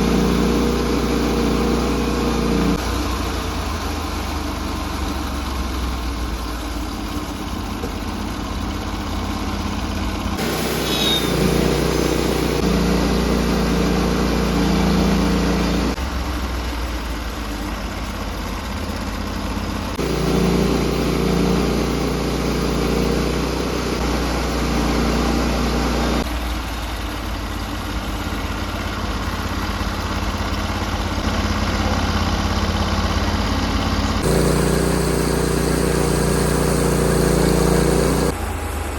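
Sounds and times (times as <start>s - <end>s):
sawmill engine running: 0.0s - 27.2s, 30.2s - 38.9s.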